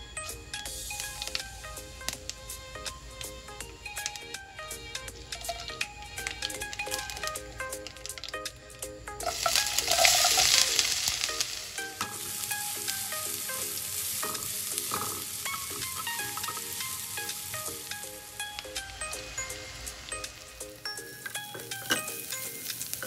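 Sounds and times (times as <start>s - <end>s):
onions sizzling in hot oil: 0.2s - 23.0s.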